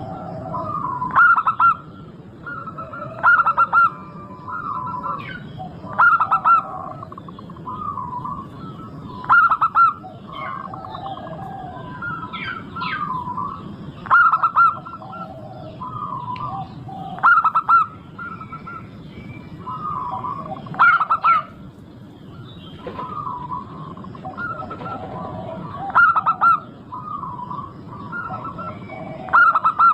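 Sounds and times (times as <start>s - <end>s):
birds chirping: 0.0s - 29.9s
doves cooing: 0.0s - 29.9s.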